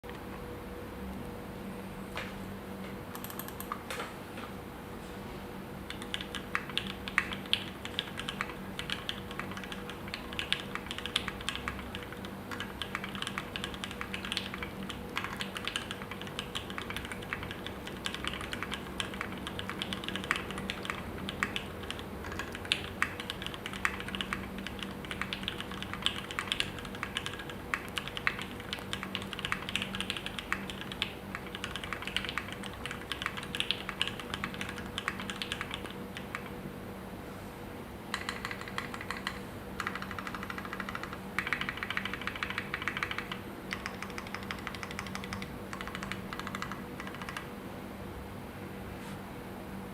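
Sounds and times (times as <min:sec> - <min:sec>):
mechanical keyboard typing: 0:03.1 - 0:03.8, 0:05.9 - 0:36.6, 0:38.1 - 0:47.5.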